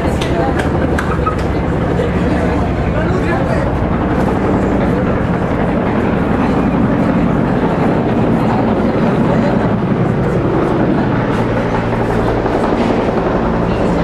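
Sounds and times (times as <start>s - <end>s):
indistinct voices: 0.0s - 14.0s.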